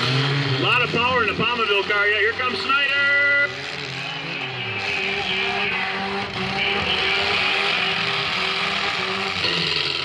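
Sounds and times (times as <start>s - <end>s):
car engines running and revving: 0.0s - 10.0s.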